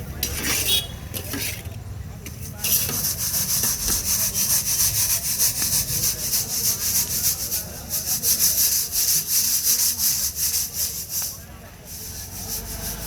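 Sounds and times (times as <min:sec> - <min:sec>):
dry snack scraped in a pan: 0:00.0 - 0:13.0.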